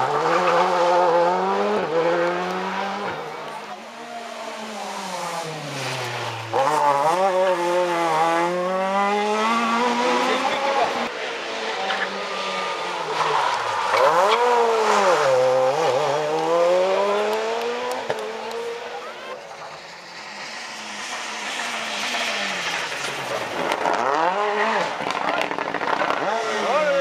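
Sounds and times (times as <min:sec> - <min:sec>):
rally car engine at high revs: 0:00.0 - 0:27.0.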